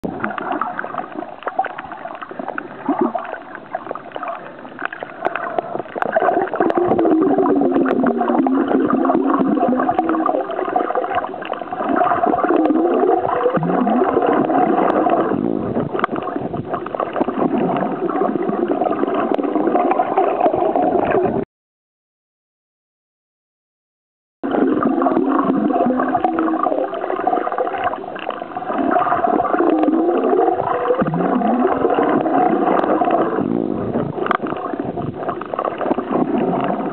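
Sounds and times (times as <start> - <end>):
reef clicks and crackles: 0.0 - 21.4, 24.5 - 36.9
underwater water noise: 0.0 - 21.4, 24.4 - 36.9.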